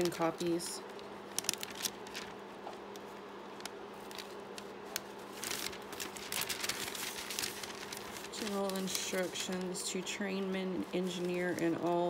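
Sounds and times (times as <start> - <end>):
paper rustling and crinkling: 0.0 - 12.0
steady low hum: 0.0 - 12.0.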